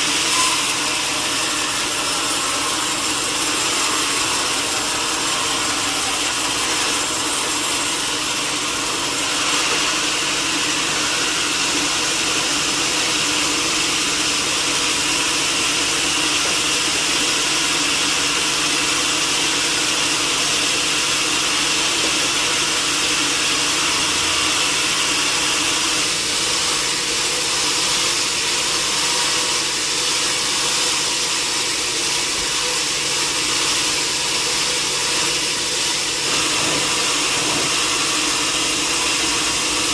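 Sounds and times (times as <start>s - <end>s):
sawmill saw whining through timber: 0.0s - 39.9s.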